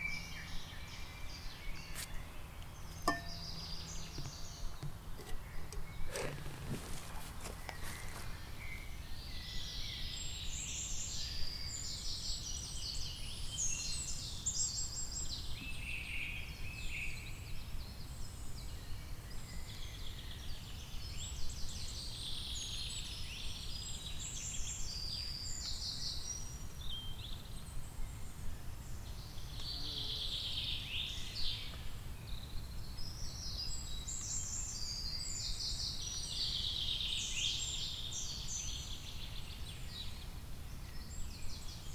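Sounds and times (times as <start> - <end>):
songbirds singing: 0.0 - 41.9.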